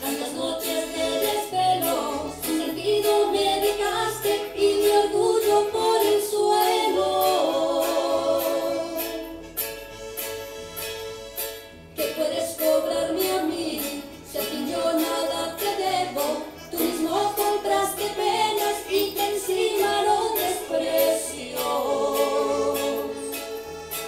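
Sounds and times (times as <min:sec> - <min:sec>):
woman singing: 0:00.0 - 0:09.4, 0:12.0 - 0:23.5
instrumental accompaniment: 0:00.0 - 0:24.0.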